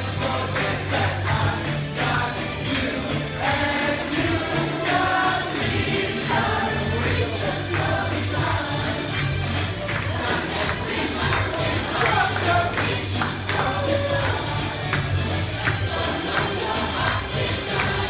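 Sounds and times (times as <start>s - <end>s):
backing track with bass and beat: 0.0s - 18.0s
group of voices singing: 0.0s - 18.0s.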